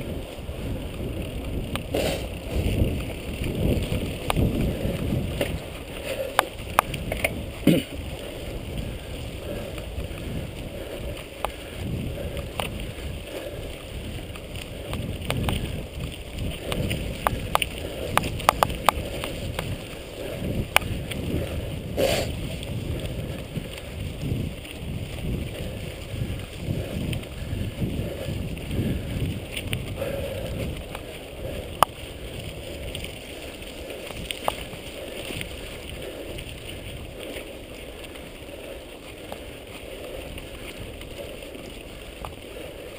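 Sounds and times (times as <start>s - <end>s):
bike rattling and clicking: 0.0s - 42.9s
tyres rumbling on dirt trail: 0.0s - 42.9s
wind on microphone: 0.0s - 42.9s.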